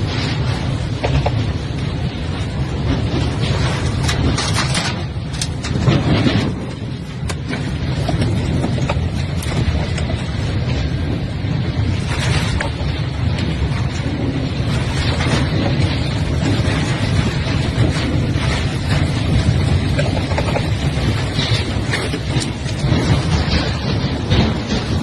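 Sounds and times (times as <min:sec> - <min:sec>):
sharp knocks and rattles: 0:00.0 - 0:25.0
wind gusting across microphone: 0:00.0 - 0:25.0.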